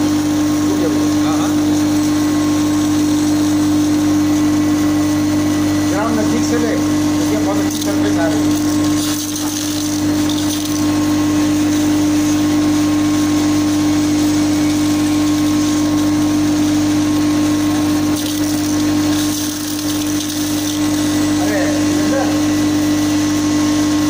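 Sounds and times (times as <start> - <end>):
casting machine humming: 0.0 - 24.0.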